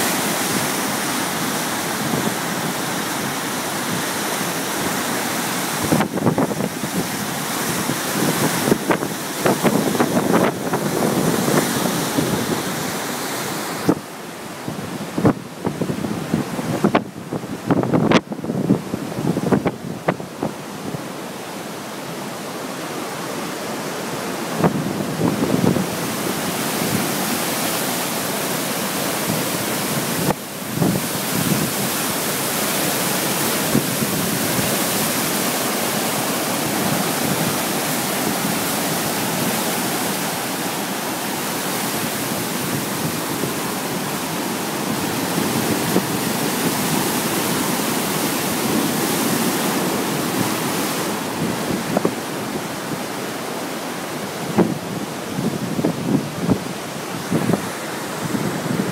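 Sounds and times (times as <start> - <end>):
river water rushing: 0.0 - 58.9
wind gusts on microphone: 0.0 - 58.9.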